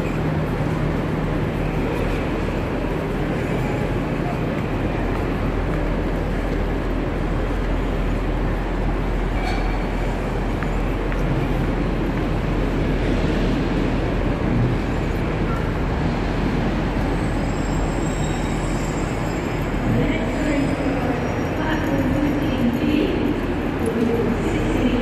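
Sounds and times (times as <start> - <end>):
railway station rumble: 0.0 - 25.0.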